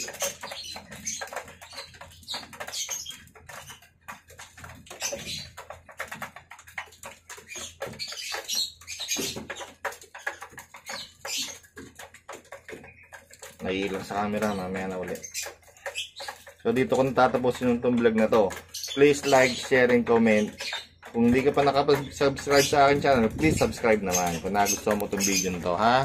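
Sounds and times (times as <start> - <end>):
pigeons pecking grain: 0.0 - 26.0.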